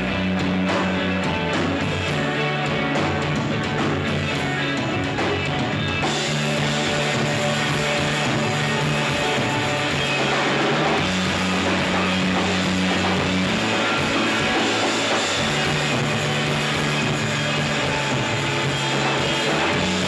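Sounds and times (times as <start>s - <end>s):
bass notes: 0.0s - 20.0s
drums: 0.0s - 20.0s
electric guitars: 0.0s - 20.0s.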